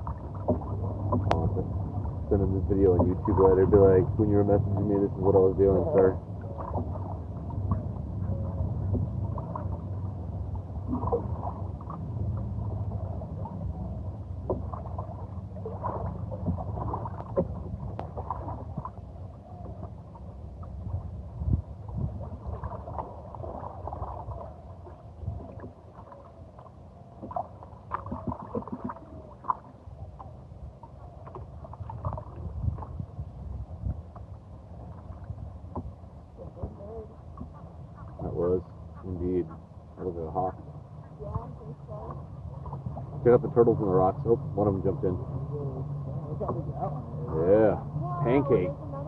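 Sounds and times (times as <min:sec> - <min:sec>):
water gurgling and splashing: 0:00.0 - 0:33.2, 0:34.6 - 0:49.0
steady low rumble: 0:00.0 - 0:49.0.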